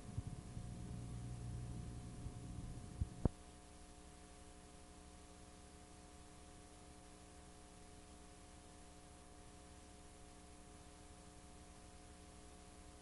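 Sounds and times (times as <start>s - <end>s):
faint tape hiss: 0.0s - 13.0s
low electrical hum: 0.0s - 13.0s.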